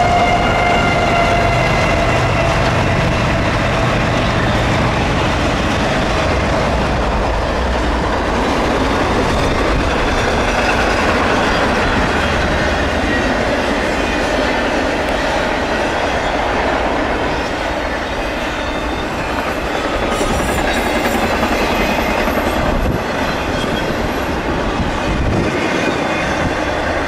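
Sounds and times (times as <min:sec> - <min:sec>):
diesel locomotive engine rumble: 0:00.0 - 0:27.0
locomotive whine: 0:00.0 - 0:27.0
train wheels on rails: 0:00.0 - 0:27.0.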